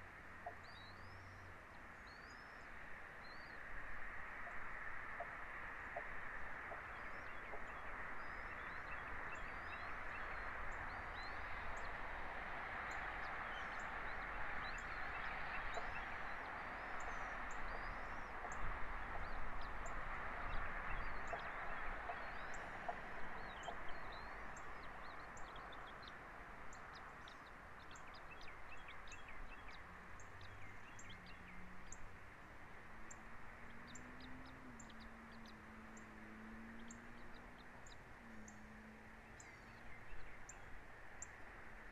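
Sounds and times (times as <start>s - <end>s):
steady outdoor hiss: 0.0s - 41.9s.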